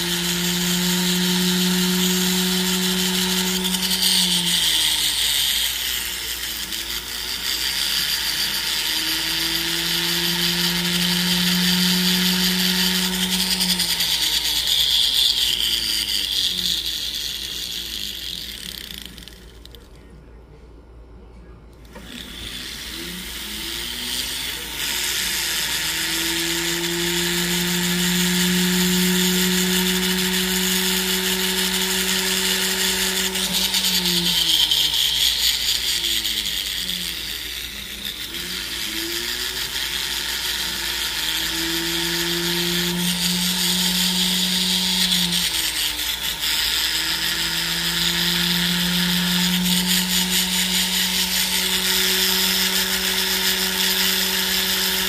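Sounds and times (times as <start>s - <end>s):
rotary tool grinding metal: 0.0s - 20.0s, 21.8s - 55.0s.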